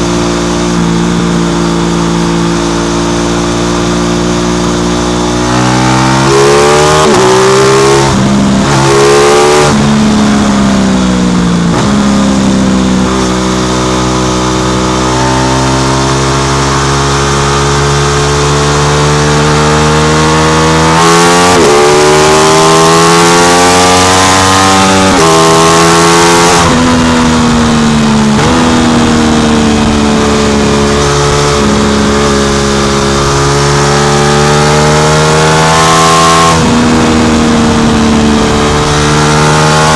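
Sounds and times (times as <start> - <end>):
motorcycle engine with gear changes: 0.0 - 39.9.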